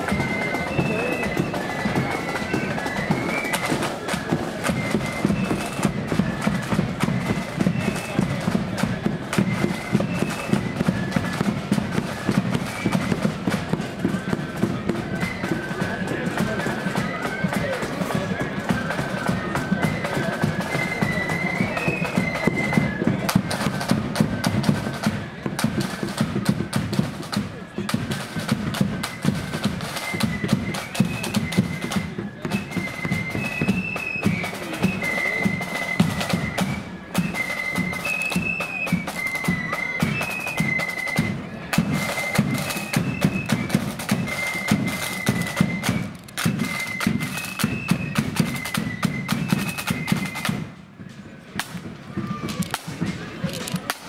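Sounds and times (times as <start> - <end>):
flutes playing high tune: 0.0 - 50.8
rattling snare drums: 0.0 - 54.0.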